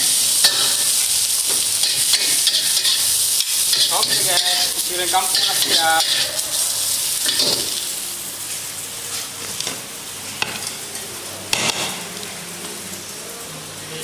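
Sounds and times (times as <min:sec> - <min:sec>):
rice sizzling in a wok: 0:00.0 - 0:14.0.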